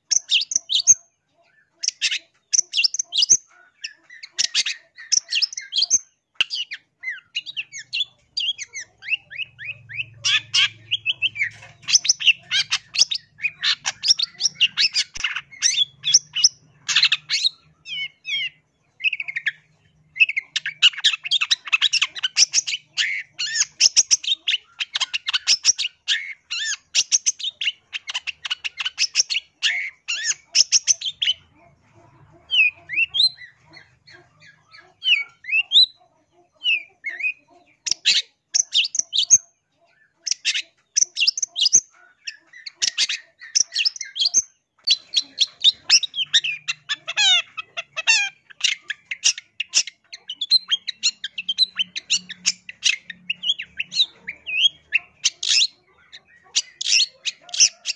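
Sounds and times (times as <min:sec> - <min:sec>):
bird harsh chattering: 0:00.0 - 0:57.9.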